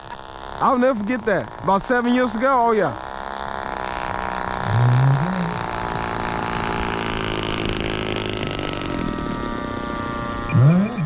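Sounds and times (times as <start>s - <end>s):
model plane engine: 0.0s - 11.0s.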